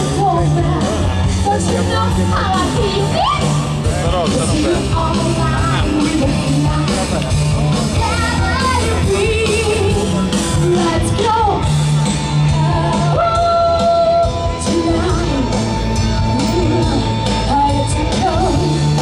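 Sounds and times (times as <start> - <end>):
woman singing into microphone: 0.0 - 3.6, 4.4 - 11.8, 12.5 - 15.6, 16.4 - 19.0
rock song over speakers: 0.0 - 19.0.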